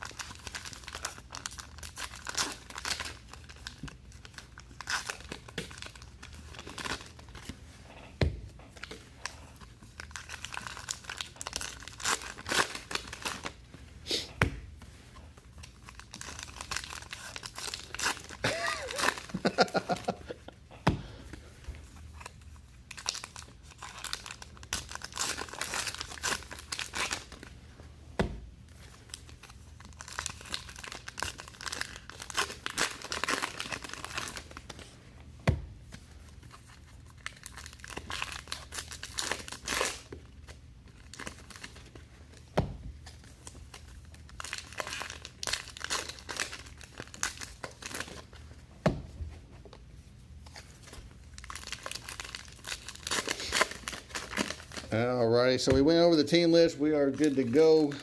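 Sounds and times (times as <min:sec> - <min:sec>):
card pack wrappers crinkling and tearing: 0:00.0 - 0:07.6, 0:08.7 - 0:13.6, 0:15.5 - 0:20.5, 0:21.9 - 0:27.6, 0:28.7 - 0:34.9, 0:36.2 - 0:48.5, 0:50.4 - 0:58.0.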